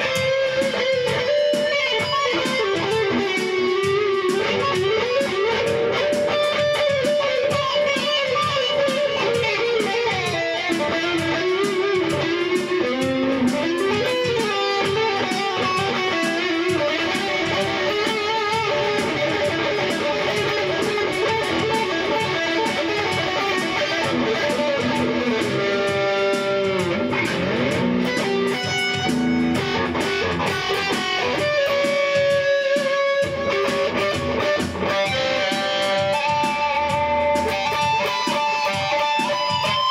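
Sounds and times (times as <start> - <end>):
electric guitar lead line: 0.0 - 39.9.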